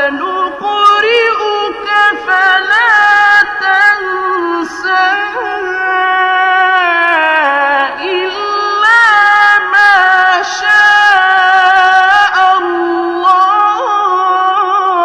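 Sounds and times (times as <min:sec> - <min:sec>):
person chanting recitation: 0:00.0 - 0:15.0.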